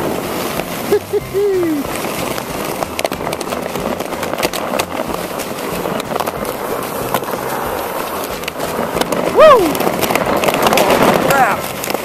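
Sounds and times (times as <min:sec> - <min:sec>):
sled and tyres crackling on ice: 0:00.0 - 0:12.0
vehicle engine rumbling: 0:00.0 - 0:12.0.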